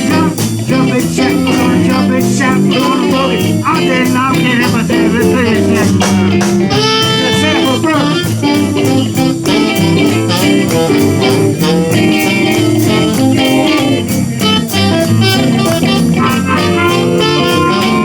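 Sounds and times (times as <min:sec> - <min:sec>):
live blues band playing: 0:00.0 - 0:18.0.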